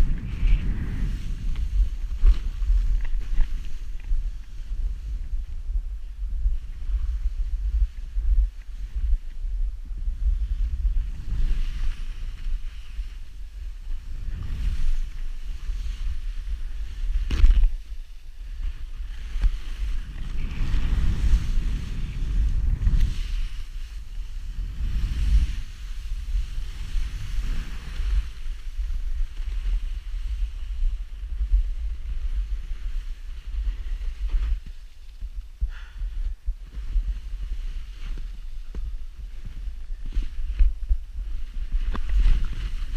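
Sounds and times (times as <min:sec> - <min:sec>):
skis carving through snow: 0:00.0 - 0:05.2, 0:10.2 - 0:35.9, 0:36.7 - 0:42.9
wind buffeting microphone: 0:00.0 - 0:42.9.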